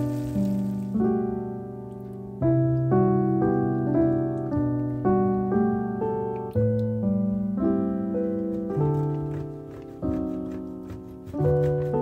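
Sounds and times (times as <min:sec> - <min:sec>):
background piano music: 0:00.0 - 0:12.0.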